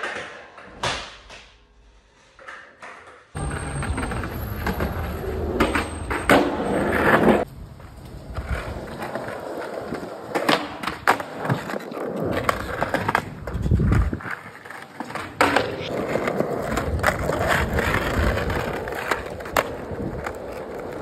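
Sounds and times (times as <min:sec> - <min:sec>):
skateboard clacking on ground: 0:00.0 - 0:01.5, 0:02.4 - 0:21.0
skateboard wheels rolling on concrete: 0:02.1 - 0:21.0.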